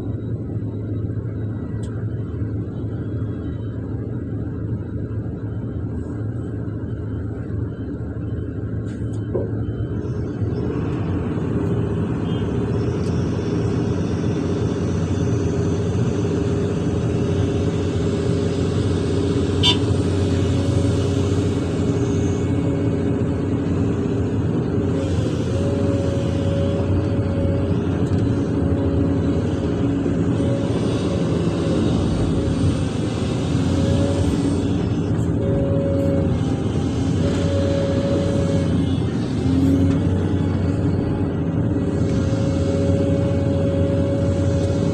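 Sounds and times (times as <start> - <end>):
excavator diesel engine: 0.0 - 44.9
hydraulics working: 0.0 - 44.9
steady high whine: 0.0 - 44.9.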